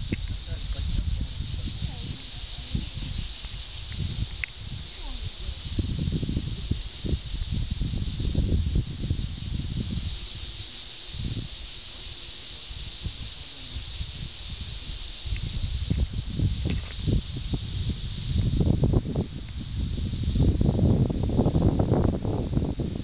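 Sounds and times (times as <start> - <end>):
wind buffeting microphone: 0.0 - 12.1, 12.7 - 23.0
high-pitched hiss: 0.0 - 23.0.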